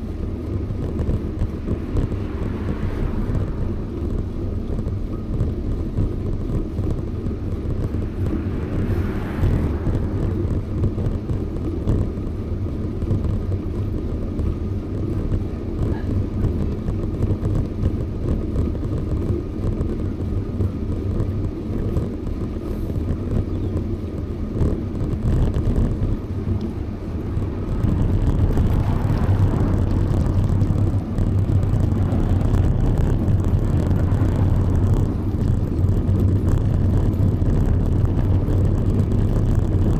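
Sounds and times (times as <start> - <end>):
bicycle rolling noise: 0.0 - 39.9
wind rumble: 0.0 - 39.9.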